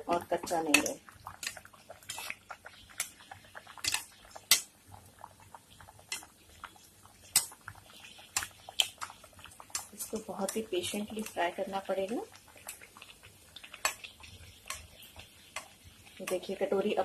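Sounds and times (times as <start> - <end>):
dough frying in hot oil crackling: 0.0 - 17.0.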